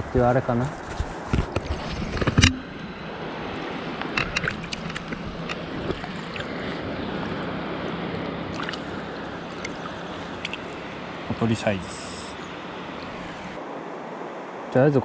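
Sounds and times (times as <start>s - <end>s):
river current rushing: 1.6s - 14.8s.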